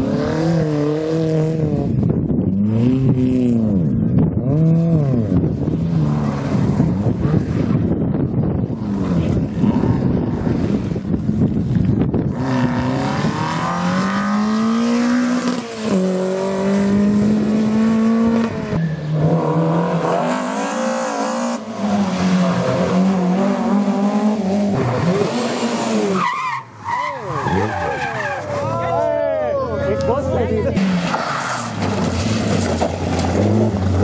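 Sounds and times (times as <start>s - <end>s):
rally car engine at full throttle: 0.0s - 34.0s.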